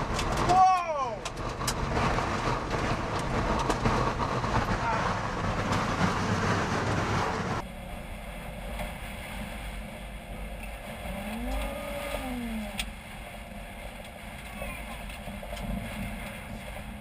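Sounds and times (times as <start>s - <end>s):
wind and rain roaring: 0.0s - 17.0s.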